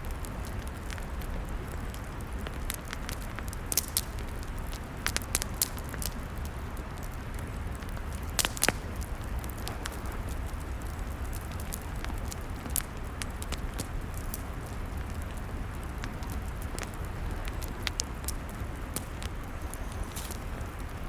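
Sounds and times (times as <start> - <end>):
log fire popping and snapping: 0.0 - 21.0
low rumble of burning: 0.0 - 21.0.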